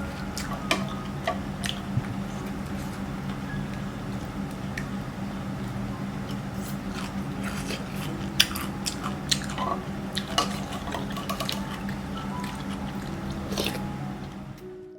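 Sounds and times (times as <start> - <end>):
wet chewing and crunching: 0.0 - 14.7
quiet background music: 0.0 - 14.9
steady low drone: 0.0 - 14.9.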